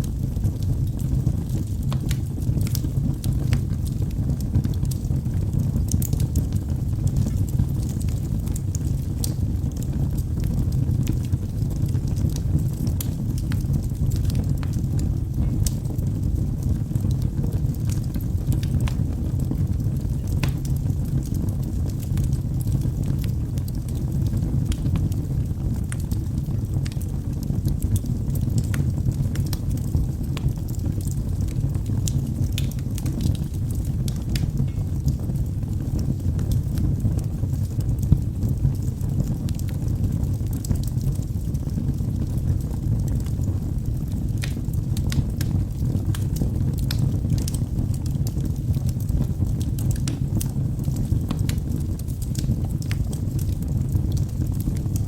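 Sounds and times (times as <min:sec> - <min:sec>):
fire flames rumbling: 0:00.0 - 0:55.0
logs crackling and popping: 0:00.0 - 0:55.0.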